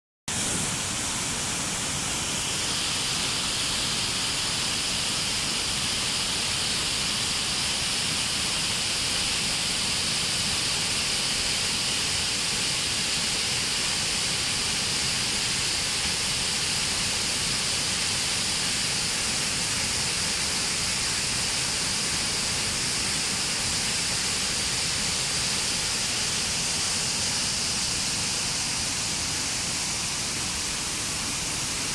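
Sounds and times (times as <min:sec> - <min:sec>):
waterfall rushing into a pool: 0:00.3 - 0:31.9.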